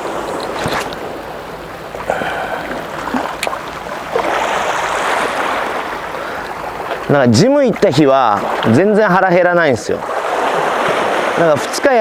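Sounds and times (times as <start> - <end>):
seawater lapping at shore: 0.0 - 12.0.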